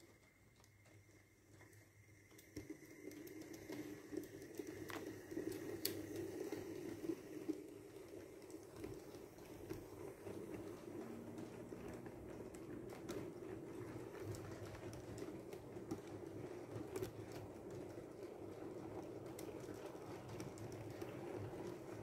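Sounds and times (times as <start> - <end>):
model train whirring on rails: 0.0 - 22.0.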